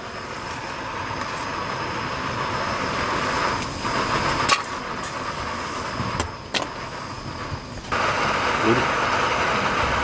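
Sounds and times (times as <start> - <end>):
broth boiling with hiss: 0.0 - 10.0.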